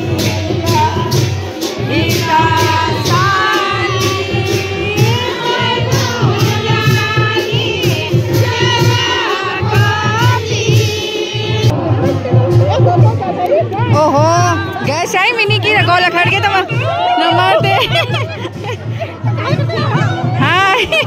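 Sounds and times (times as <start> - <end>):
women singing in unison: 0.0 - 13.1, 13.8 - 18.0
crowd noise: 0.0 - 21.0
sharp beat strokes: 0.0 - 21.0.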